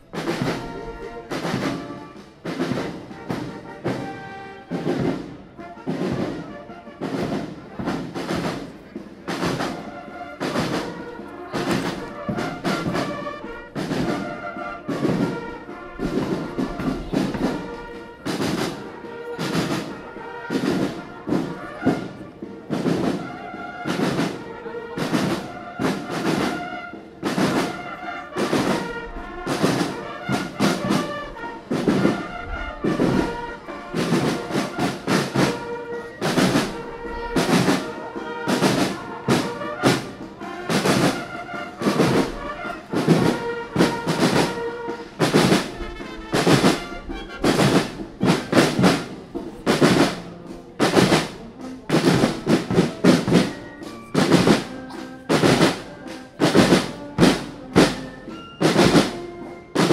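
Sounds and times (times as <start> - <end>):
military band playing a march: 0.0 - 59.9.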